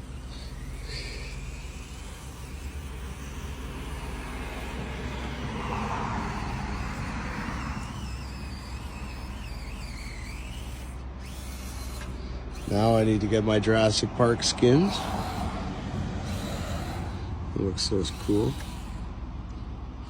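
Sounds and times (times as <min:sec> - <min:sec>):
outdoor background hum: 0:00.0 - 0:20.0
toy car motor whining: 0:00.0 - 0:20.0.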